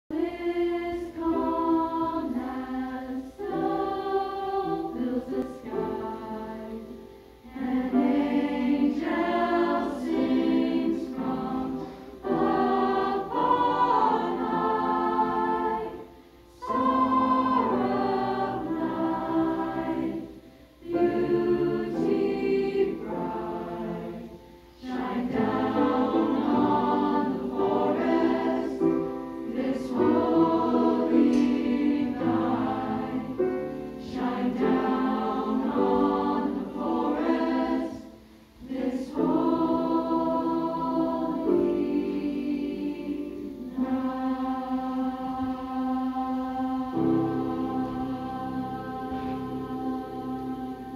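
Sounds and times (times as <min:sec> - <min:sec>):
choir singing a carol: 0:00.0 - 0:50.9.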